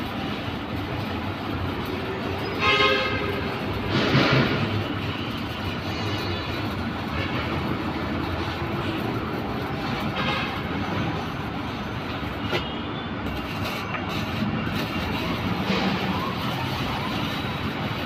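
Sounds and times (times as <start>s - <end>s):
welding arc hissing: 0.0s - 18.0s.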